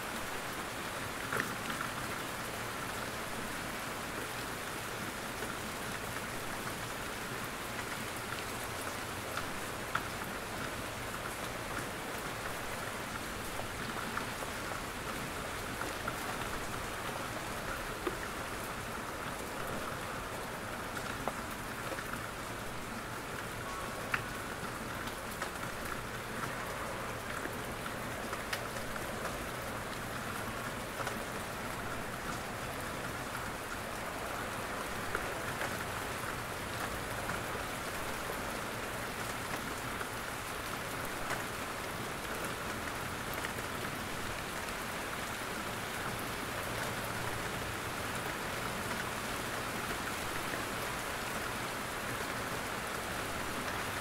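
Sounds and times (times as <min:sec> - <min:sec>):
steady rain in a forest: 0:00.0 - 0:54.0.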